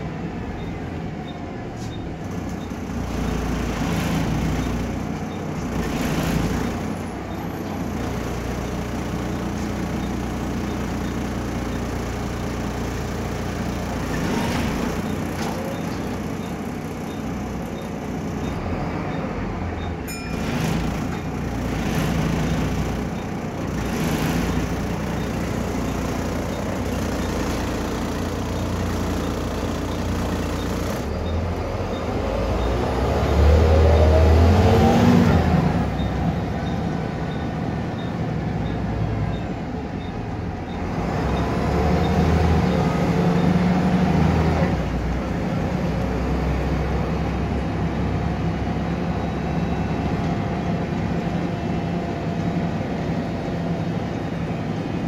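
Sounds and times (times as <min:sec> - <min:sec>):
bus diesel engine running: 0:00.0 - 0:55.0
road noise: 0:00.0 - 0:55.0.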